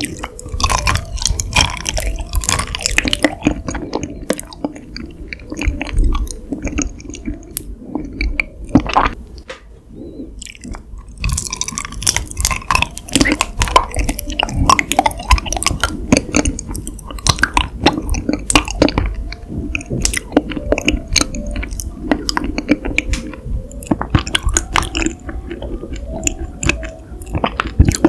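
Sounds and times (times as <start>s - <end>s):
chewing honeycomb: 0.0s - 9.2s, 10.2s - 28.0s.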